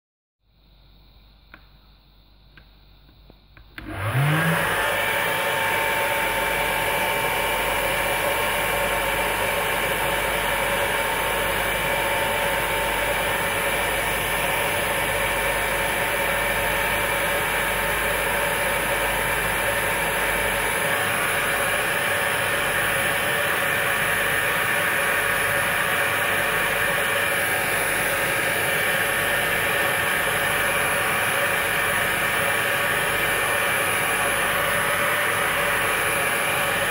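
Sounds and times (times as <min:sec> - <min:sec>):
hair dryer motor whine: 0:03.6 - 0:36.9
hair dryer blowing air: 0:03.7 - 0:36.9.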